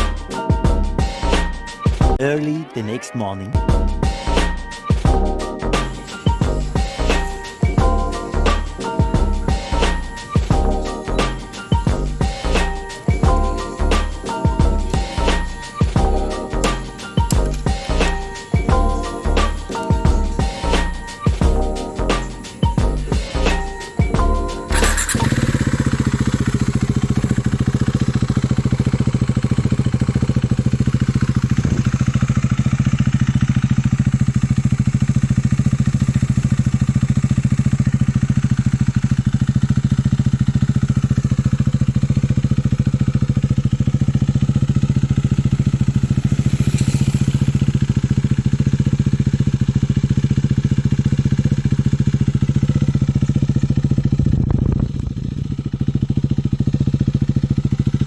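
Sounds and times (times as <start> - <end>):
motorcycle engine idling: 3.8 - 58.0.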